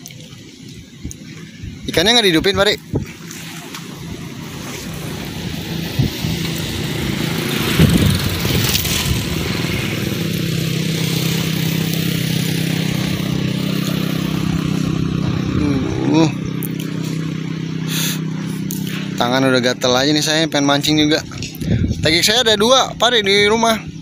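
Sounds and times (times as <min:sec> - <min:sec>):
small engine running: 0:00.2 - 0:24.0.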